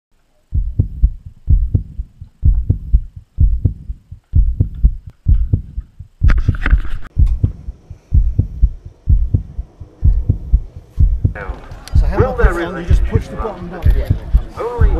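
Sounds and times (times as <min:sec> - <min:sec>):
deep heartbeat-like thumping: 0:00.5 - 0:14.9.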